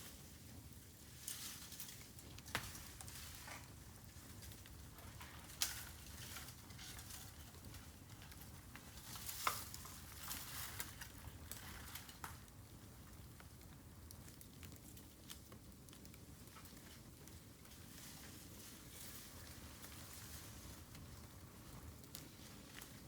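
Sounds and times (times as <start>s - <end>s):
bamboo burning on a fire: 0.0s - 23.0s.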